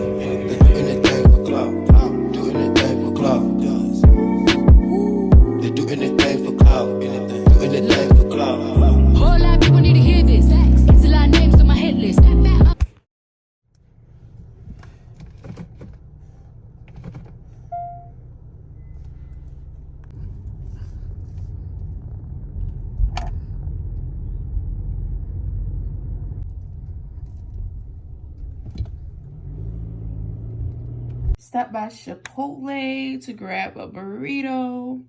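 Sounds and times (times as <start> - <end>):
car engine and road rumble: 0.0 - 13.0, 13.6 - 31.4.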